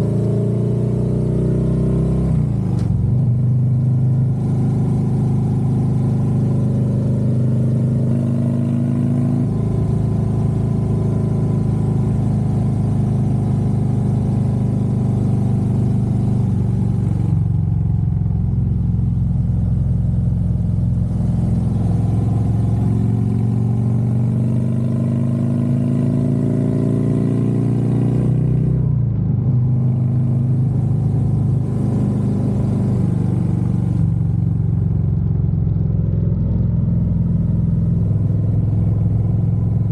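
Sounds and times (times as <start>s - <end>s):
motorcycle engine running: 2.5s - 39.9s.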